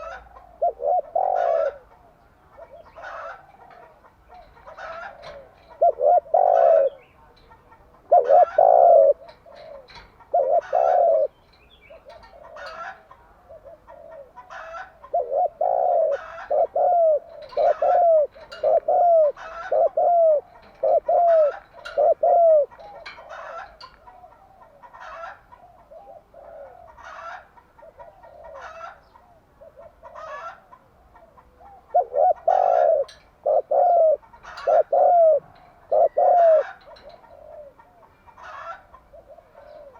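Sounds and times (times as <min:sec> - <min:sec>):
doves cooing: 0:00.0 - 0:39.9
small birds chirping faintly: 0:00.0 - 0:39.9.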